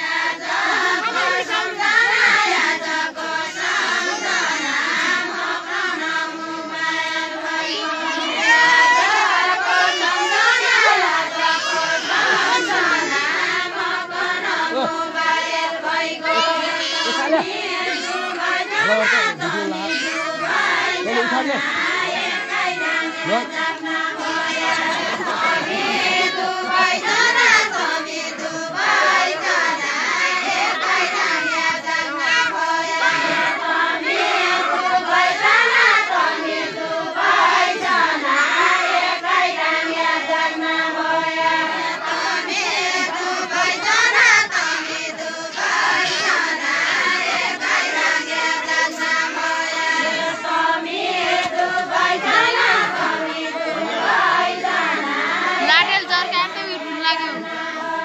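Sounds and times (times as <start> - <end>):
women singing in unison: 0.0 - 58.0.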